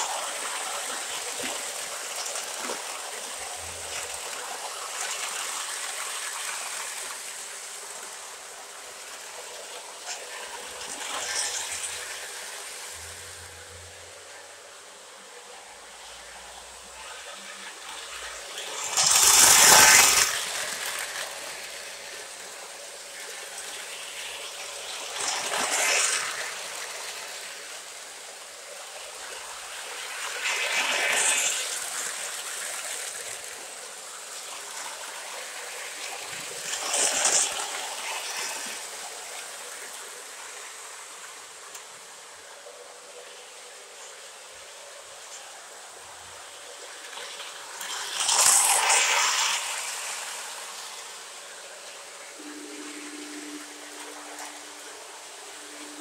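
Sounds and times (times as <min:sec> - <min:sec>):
model train wheels rolling hiss: 0:00.0 - 0:56.0.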